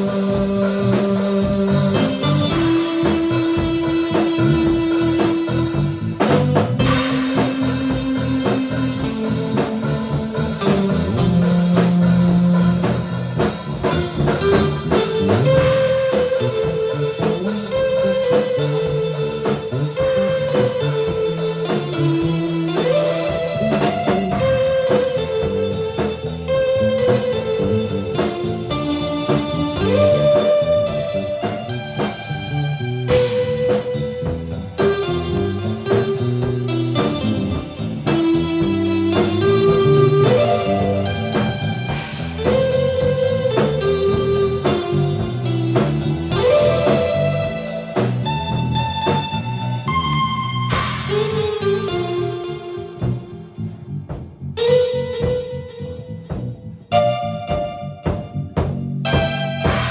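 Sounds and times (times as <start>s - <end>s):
guitar melody: 0.0s - 59.9s
rock band playing: 0.0s - 59.9s.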